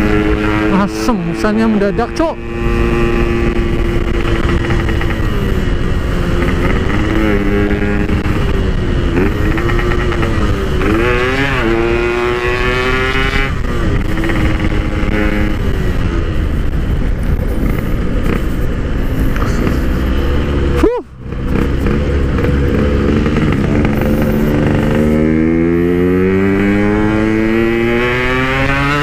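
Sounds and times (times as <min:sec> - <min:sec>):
low wind rumble: 0:00.0 - 0:29.0
motorcycle engine revving: 0:00.0 - 0:29.0.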